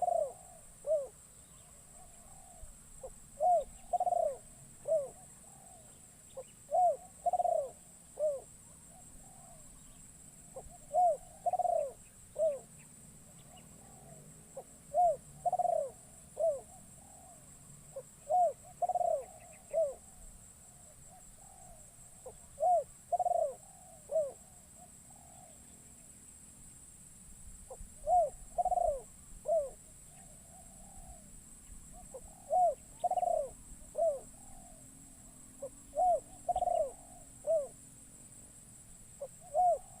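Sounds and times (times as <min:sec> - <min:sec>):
dove cooing: 0:00.0 - 0:25.6, 0:27.7 - 0:31.2, 0:31.9 - 0:34.9, 0:35.6 - 0:37.8, 0:39.2 - 0:40.0.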